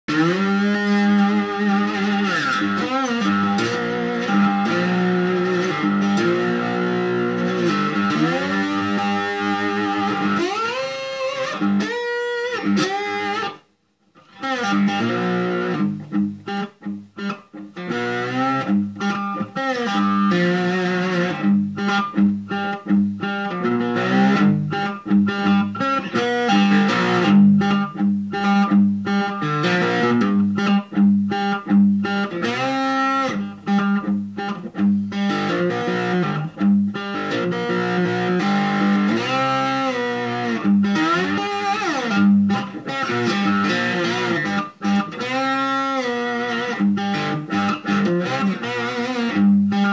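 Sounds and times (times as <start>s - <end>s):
guitar picked notes: 0.0s - 49.9s.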